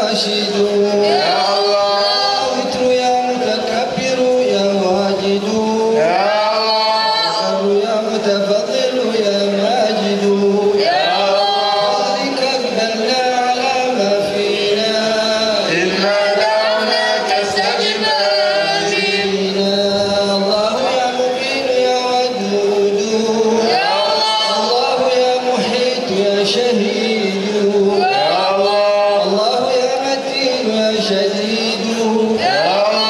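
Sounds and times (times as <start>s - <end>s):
man chanting devotional verse: 0.0s - 33.0s.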